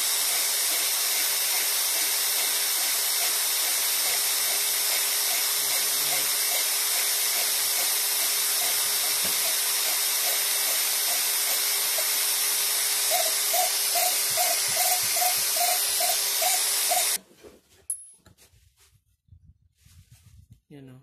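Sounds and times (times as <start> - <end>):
electric drill running: 0.0 - 17.2.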